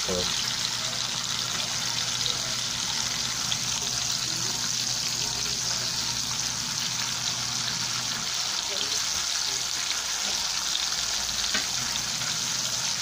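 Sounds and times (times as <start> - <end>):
meat sizzling in a pan: 0.0 - 13.0
small crackles of frying oil: 0.0 - 13.0.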